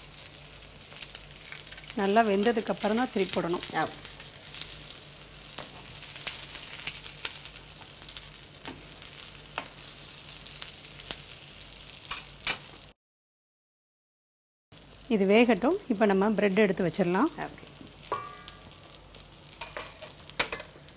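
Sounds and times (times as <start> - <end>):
patties sizzling in oil: 0.0 - 13.0, 14.8 - 20.9.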